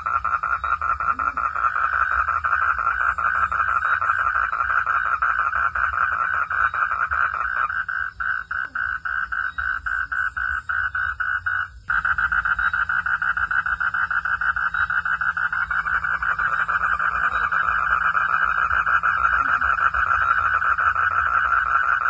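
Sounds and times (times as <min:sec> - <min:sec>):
frogs calling in pulsed trills: 0:00.0 - 0:22.0
low steady rumble: 0:00.0 - 0:22.0.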